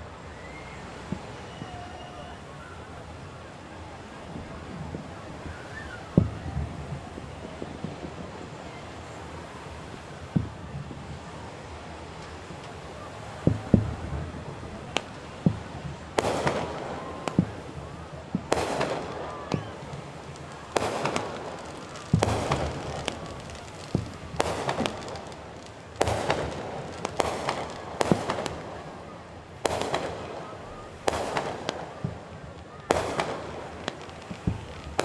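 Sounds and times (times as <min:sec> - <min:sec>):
fireworks booming: 0:00.0 - 0:35.0
firework shells bursting with crackle: 0:04.3 - 0:35.0.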